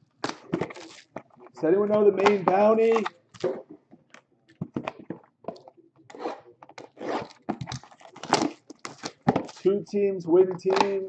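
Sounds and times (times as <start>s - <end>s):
hands handling cardboard boxes: 0.2s - 9.8s, 10.5s - 11.0s.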